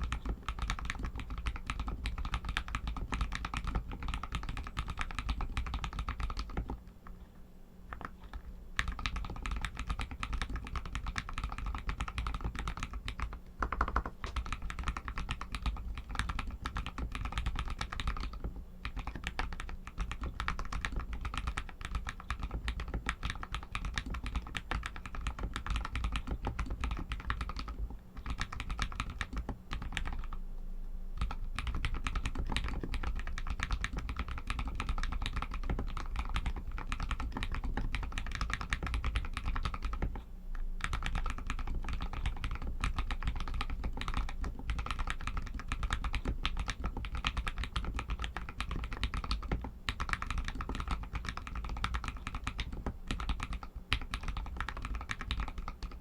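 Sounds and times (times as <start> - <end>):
mechanical keyboard typing: 0.0 - 6.8, 7.9 - 30.4, 31.2 - 40.2, 40.8 - 56.0.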